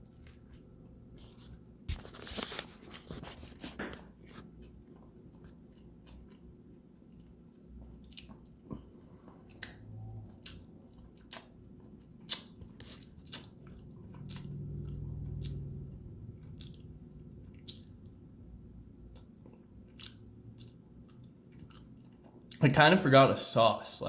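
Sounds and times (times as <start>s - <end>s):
person chewing food: 0.0s - 22.6s.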